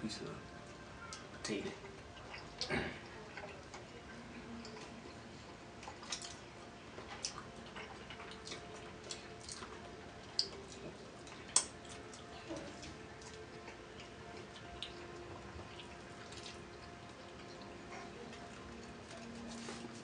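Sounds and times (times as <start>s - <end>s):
chewing and lip smacks: 1.0s - 20.0s.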